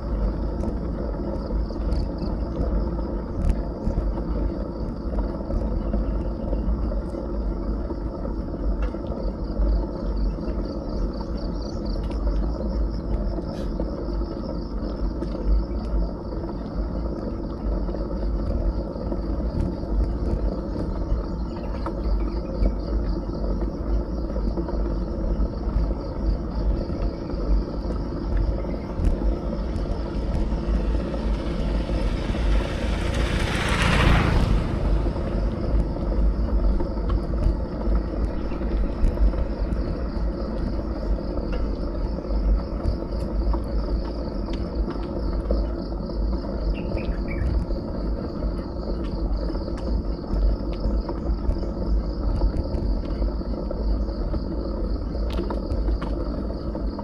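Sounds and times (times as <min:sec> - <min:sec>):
bicycle tyres on rough road: 0:00.0 - 0:57.0
insects chirring: 0:00.0 - 0:57.0
wind rumbling on microphone: 0:00.0 - 0:57.0.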